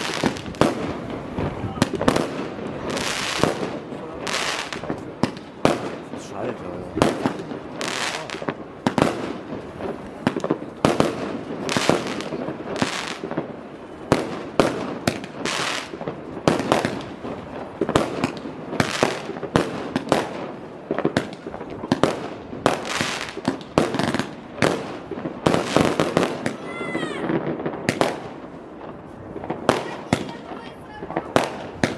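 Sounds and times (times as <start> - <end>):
fireworks bangs: 0.0 - 31.9
fireworks crackling: 0.0 - 31.9.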